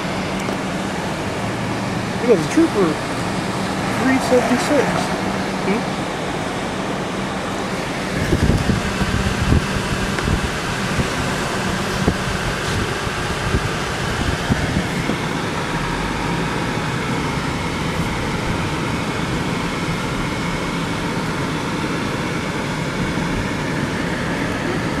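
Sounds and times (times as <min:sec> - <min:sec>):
car running heard from cabin: 0:00.0 - 0:25.0.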